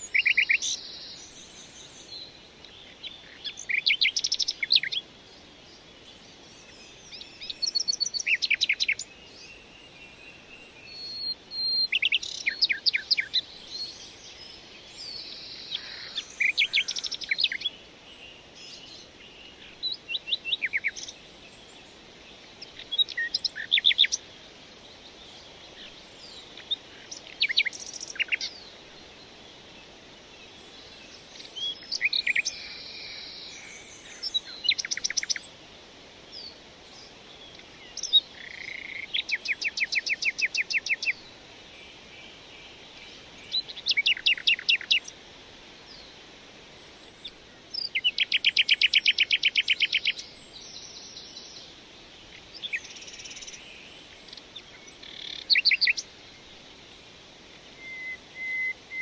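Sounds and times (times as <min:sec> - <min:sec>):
birds chirping and trilling: 0:00.0 - 0:35.6, 0:36.3 - 0:45.2, 0:47.0 - 0:59.0
faint steady hiss: 0:00.0 - 0:59.0.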